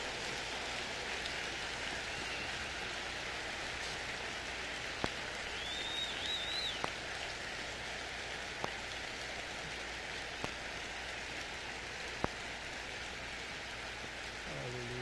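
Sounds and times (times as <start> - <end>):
vinyl hiss and crackle: 0.0 - 15.0.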